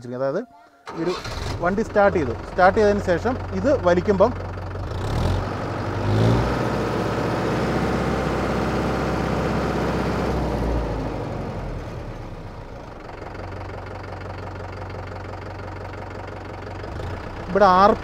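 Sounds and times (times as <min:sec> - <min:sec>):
tractor diesel engine revving: 0:00.8 - 0:18.0.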